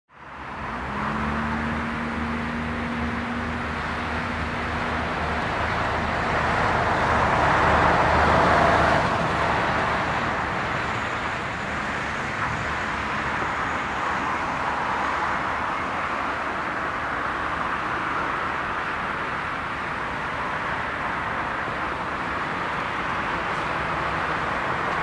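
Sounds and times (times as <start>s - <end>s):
jet engine roar at takeoff: 0.2s - 25.0s.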